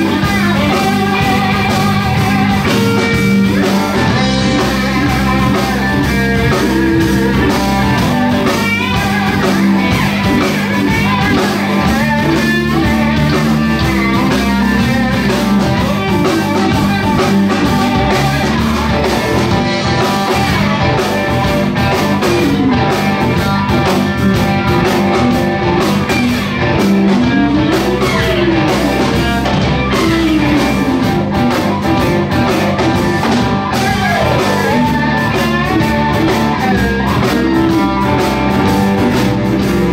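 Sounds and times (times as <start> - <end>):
lead guitar bending notes: 0.0 - 39.9
live blues band playing: 0.0 - 39.9.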